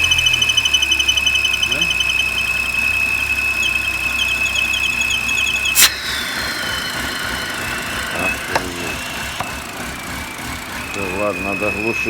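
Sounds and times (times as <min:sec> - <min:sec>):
high-pitched whistle: 0:00.0 - 0:10.2, 0:10.9 - 0:12.0
car engine idling: 0:00.0 - 0:12.0
faint tone sliding downward: 0:00.0 - 0:12.0
fast pulsing squeak: 0:00.0 - 0:12.0.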